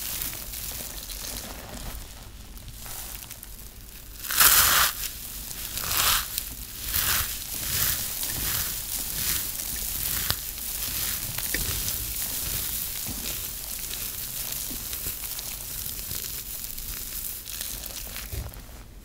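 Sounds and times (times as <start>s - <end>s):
soap crunching and crackling: 0.0s - 19.0s.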